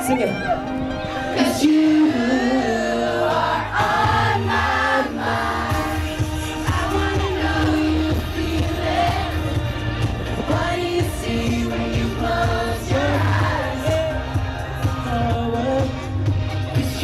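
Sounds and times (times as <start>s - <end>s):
crowd voices: 0.0s - 17.0s
pop backing track with bass: 0.0s - 17.0s
man singing amplified: 1.0s - 17.0s.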